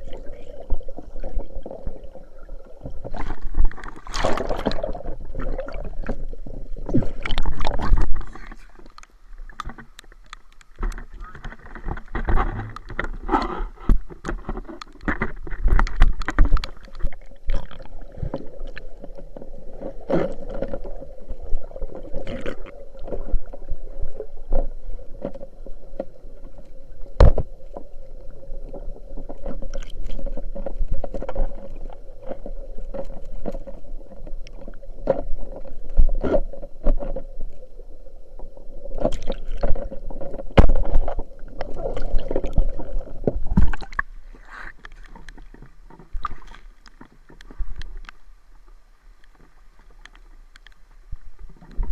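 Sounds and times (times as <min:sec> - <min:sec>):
faint steady hum: 0:00.0 - 0:51.9
water gurgling: 0:00.0 - 0:51.9.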